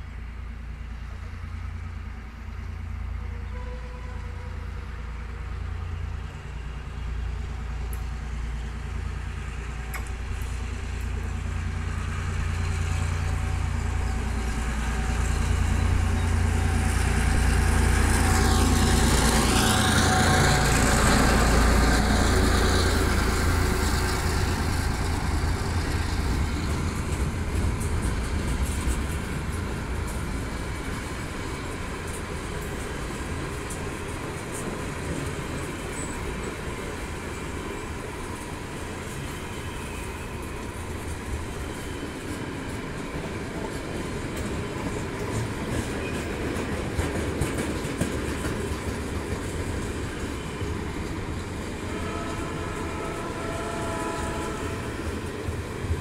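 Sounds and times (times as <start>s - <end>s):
locomotive engines rumbling: 0.0s - 56.0s
train wagons rolling by: 0.0s - 56.0s.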